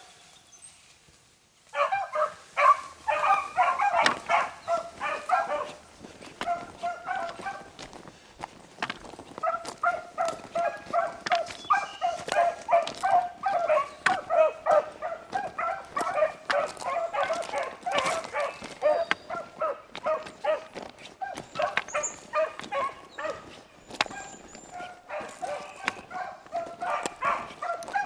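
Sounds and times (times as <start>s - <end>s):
dogs baying: 1.8s - 8.1s, 8.8s - 28.0s.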